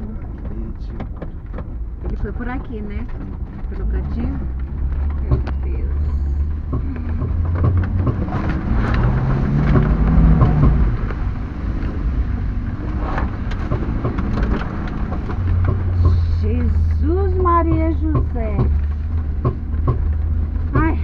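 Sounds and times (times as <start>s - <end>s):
car engine rumble: 0.0s - 21.0s
car body knocks and rattles: 0.2s - 5.8s, 6.4s - 21.0s.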